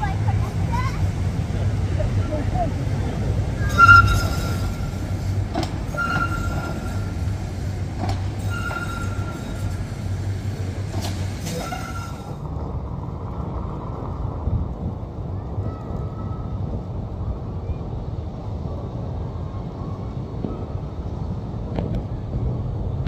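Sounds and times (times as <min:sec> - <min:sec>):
tram rumbling: 0:00.0 - 0:23.0.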